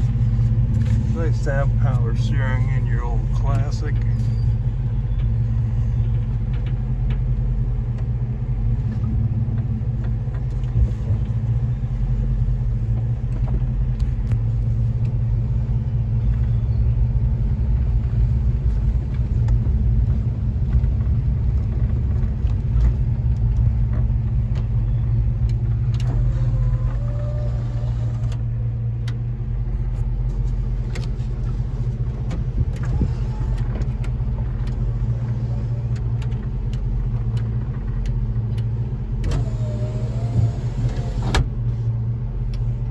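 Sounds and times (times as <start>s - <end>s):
road drone: 0.0s - 42.9s
truck engine running: 0.0s - 42.9s.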